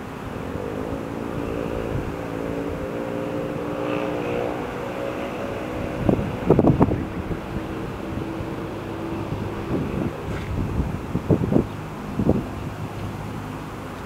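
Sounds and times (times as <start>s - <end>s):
engine running steadily: 0.0s - 14.0s
wind buffeting microphone: 0.0s - 14.0s.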